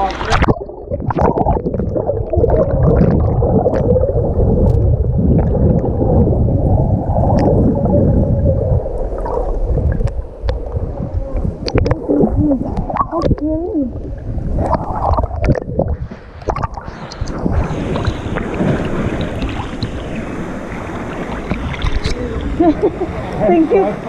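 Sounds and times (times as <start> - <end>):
underwater churning water rumble: 0.0 - 24.0.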